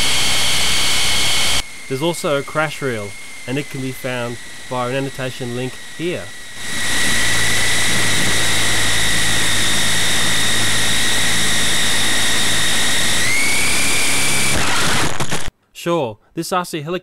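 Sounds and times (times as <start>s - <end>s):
toy helicopter motor whining: 0.0s - 15.5s.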